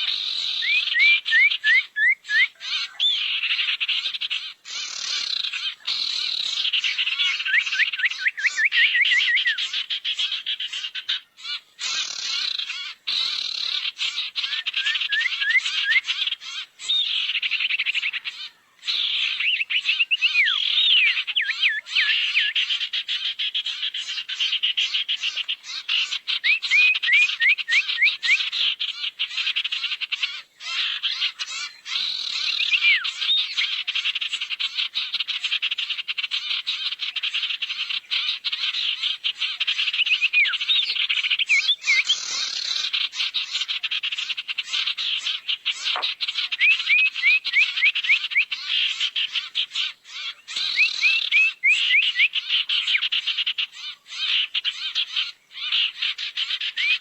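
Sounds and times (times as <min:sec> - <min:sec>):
harsh chattering bird calls: 0:00.0 - 0:57.0.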